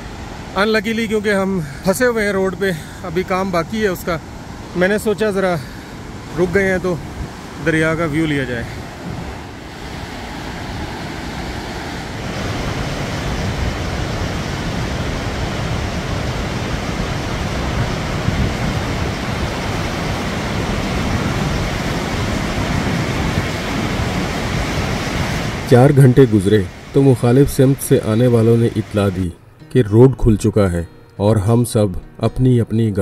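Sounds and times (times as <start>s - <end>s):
river rushing: 0.0s - 29.7s.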